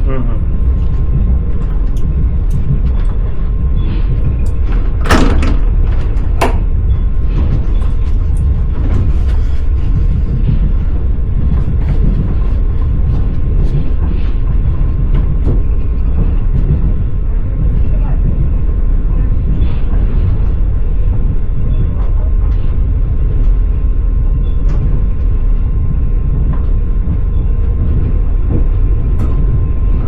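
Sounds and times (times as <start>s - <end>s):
train rumbling: 0.0s - 30.0s
wheels clattering on rails: 0.0s - 30.0s.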